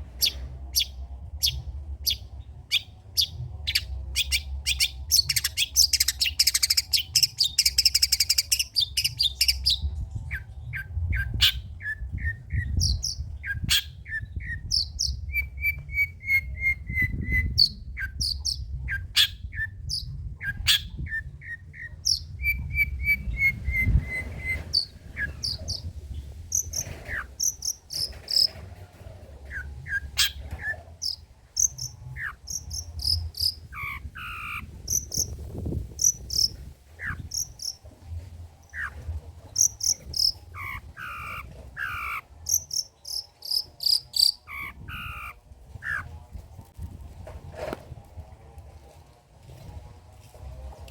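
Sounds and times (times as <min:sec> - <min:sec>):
bird singing varied song: 0:00.0 - 0:38.0, 0:38.6 - 0:46.1.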